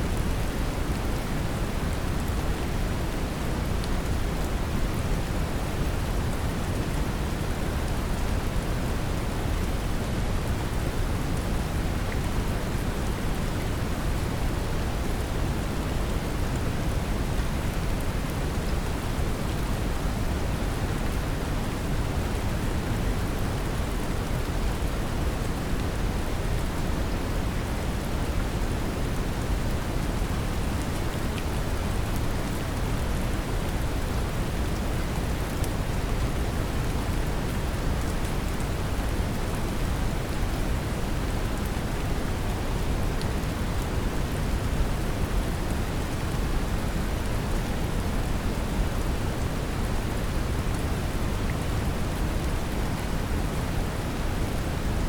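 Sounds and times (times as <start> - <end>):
brown noise hiss: 0.0 - 55.0
gentle rain patter: 0.0 - 55.0.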